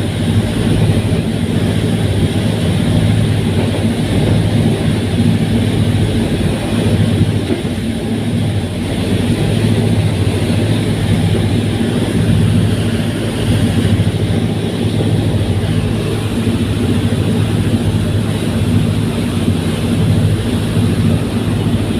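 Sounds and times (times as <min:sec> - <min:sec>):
ferry engines droning: 0:00.0 - 0:21.9.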